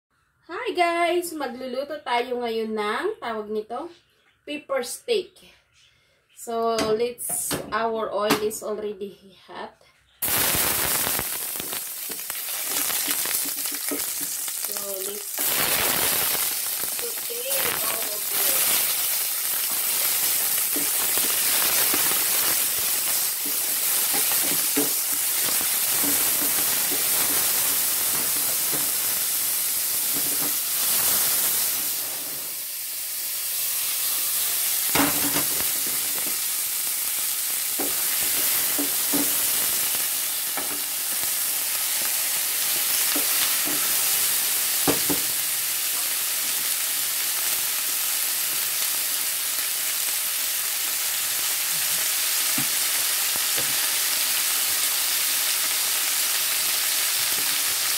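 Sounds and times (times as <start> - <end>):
vegetables sizzling in oil: 10.2 - 57.9.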